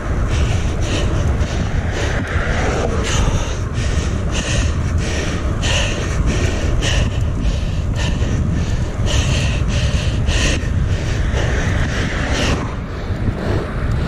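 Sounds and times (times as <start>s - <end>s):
person breathing hard: 0.0s - 14.0s
wind rumble on microphone: 0.0s - 14.0s.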